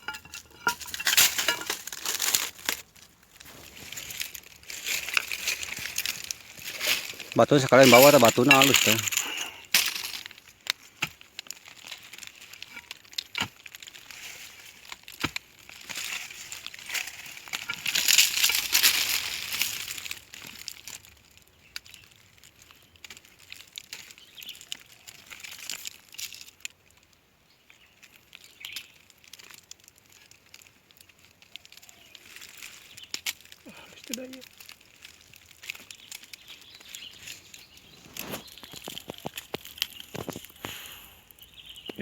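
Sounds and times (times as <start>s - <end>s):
rustling and crackling: 0.0s - 42.0s.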